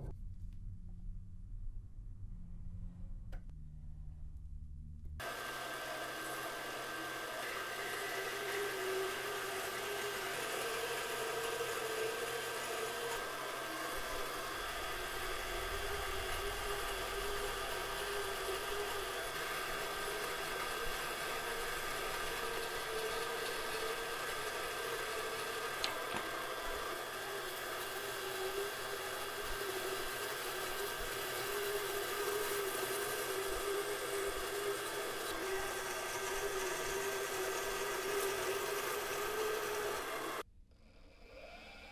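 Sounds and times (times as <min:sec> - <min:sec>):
band saw cutting wood: 0:05.2 - 0:40.4.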